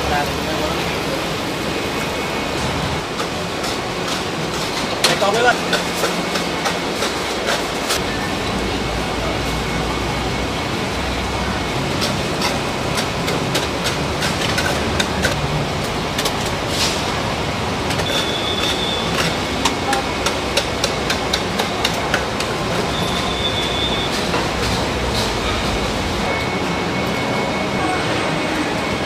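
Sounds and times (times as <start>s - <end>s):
market background noise: 0.0s - 29.0s.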